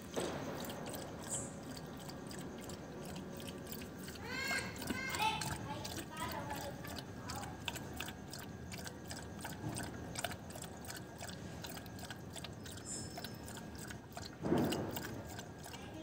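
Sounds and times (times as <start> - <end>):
dog lapping from a bowl: 0.0 - 16.0.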